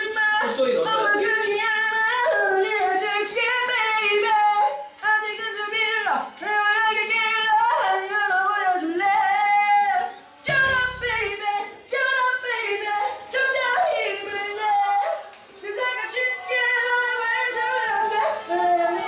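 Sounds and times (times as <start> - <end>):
man singing in high belting voice: 0.0 - 19.0.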